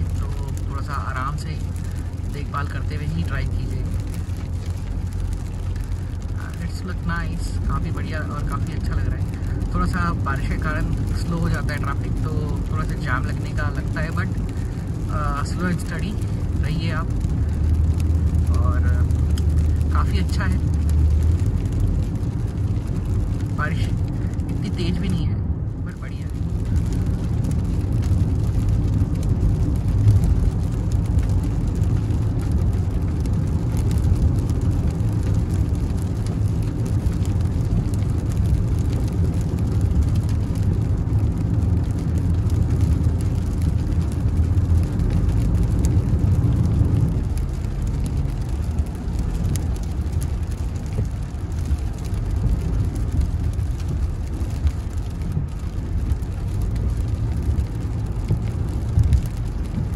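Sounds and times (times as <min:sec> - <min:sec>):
car engine and tyres on wet road: 0:00.0 - 0:59.9.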